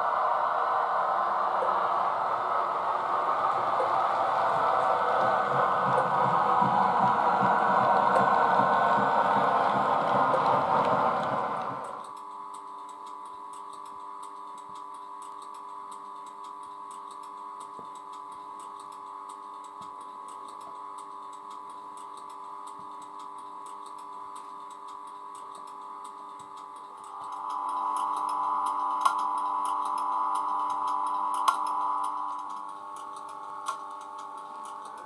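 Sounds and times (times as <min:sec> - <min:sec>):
electric locomotive humming: 0:00.0 - 0:35.0.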